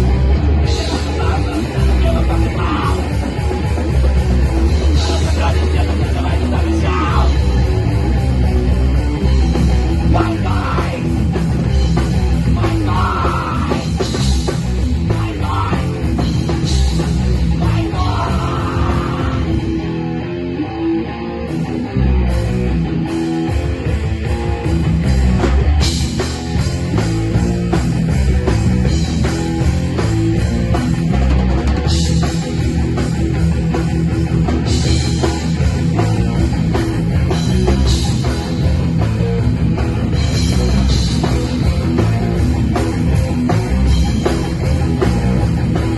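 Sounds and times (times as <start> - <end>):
heavy rock band playing: 0.0 - 45.9.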